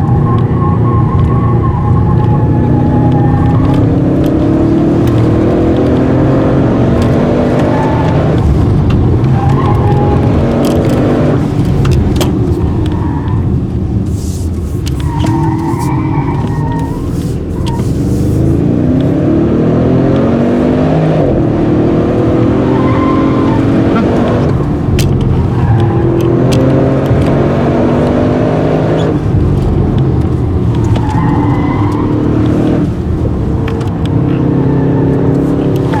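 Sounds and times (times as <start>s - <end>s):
car engine accelerating hard: 0.0s - 36.0s.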